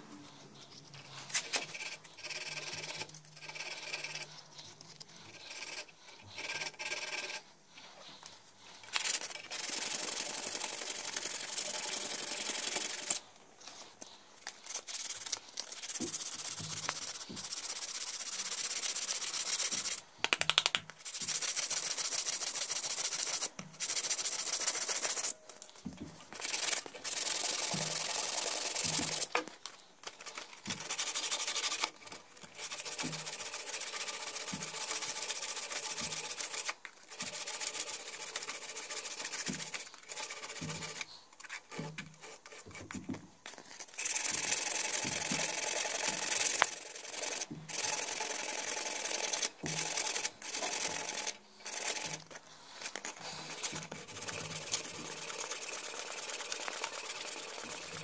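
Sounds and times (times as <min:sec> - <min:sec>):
sandpaper scraping bone: 0:00.3 - 0:20.0, 0:21.0 - 0:29.4, 0:30.0 - 0:42.9, 0:43.5 - 0:58.0.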